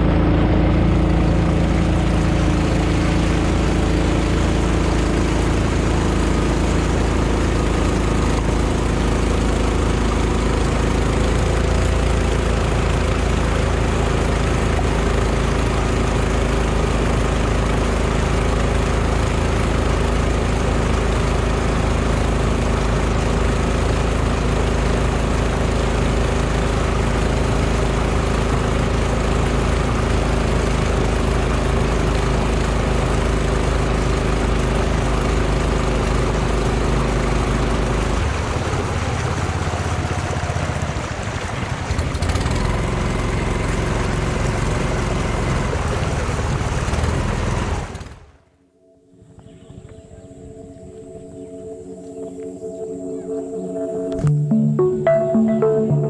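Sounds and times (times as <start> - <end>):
water splashing along hull: 0.0 - 48.5
motorboat engine running: 0.0 - 56.0.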